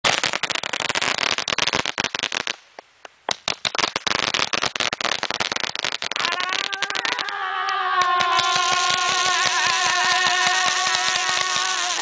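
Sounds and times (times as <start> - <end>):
fireworks crackling pops: 0.0 - 12.0.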